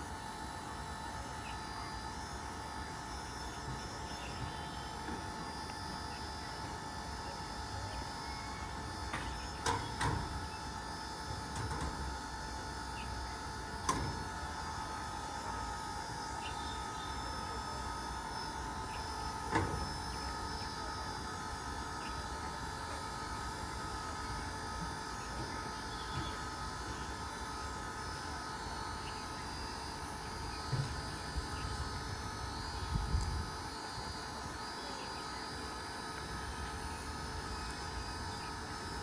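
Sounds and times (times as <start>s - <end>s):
diesel locomotive engine humming: 0.0s - 34.5s.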